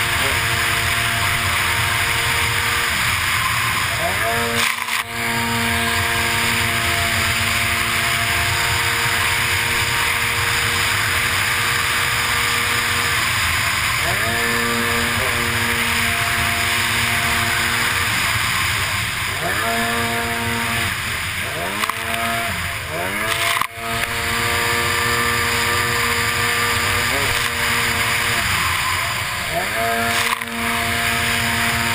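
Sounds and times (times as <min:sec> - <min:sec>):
jet ski engine at high revs: 0:00.0 - 0:31.9
rushing water and wind: 0:00.0 - 0:31.9.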